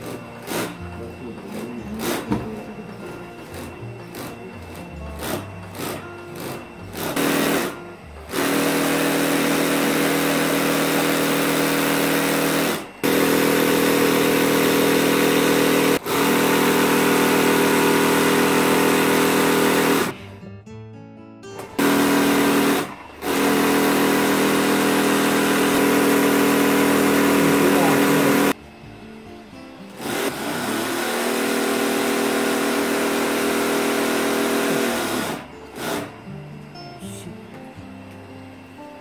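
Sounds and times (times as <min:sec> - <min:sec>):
sewing machine running: 0:00.0 - 0:20.2, 0:21.8 - 0:28.6, 0:30.0 - 0:36.2.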